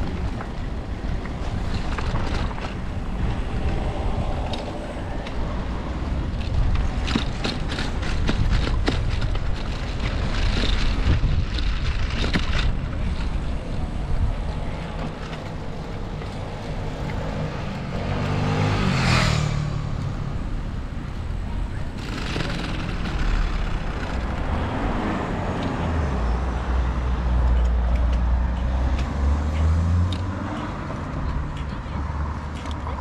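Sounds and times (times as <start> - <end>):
motor vehicle passing: 0.0 - 27.4.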